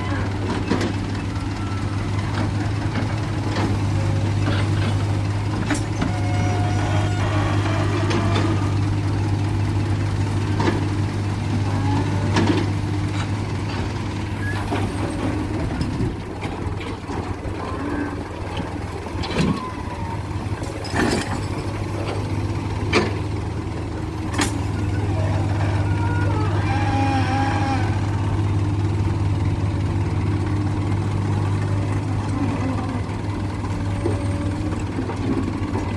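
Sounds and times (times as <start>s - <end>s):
diesel engine droning: 0.0s - 35.9s.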